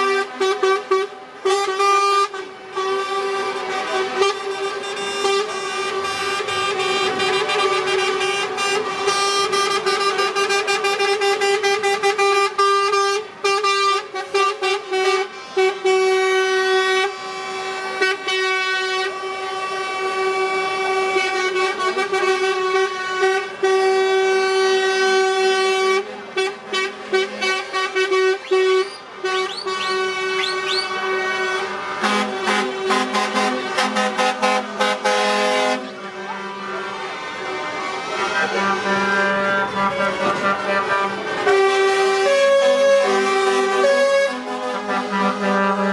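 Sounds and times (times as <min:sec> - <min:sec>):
truck air horns blaring: 0:00.0 - 0:45.9.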